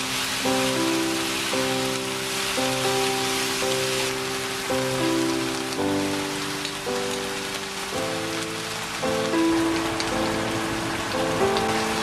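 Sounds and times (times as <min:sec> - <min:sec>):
crackly hiss: 0:00.0 - 0:12.0
soft background music: 0:00.0 - 0:12.0.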